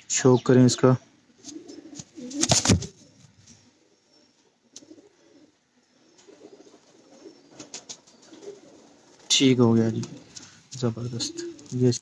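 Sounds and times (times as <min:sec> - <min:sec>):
pigeons cooing: 0:01.3 - 0:11.8.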